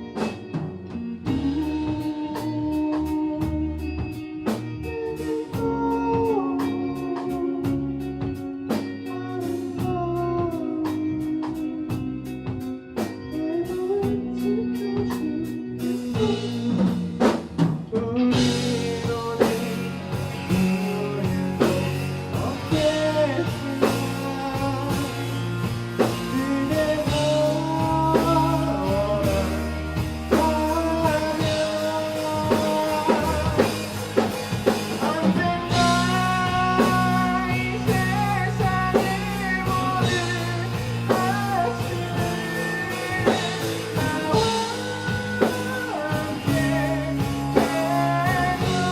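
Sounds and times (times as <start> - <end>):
bass guitar: 0.0 - 48.9
drum kit: 0.0 - 48.9
electric guitars: 0.0 - 48.9
person singing: 0.0 - 48.9.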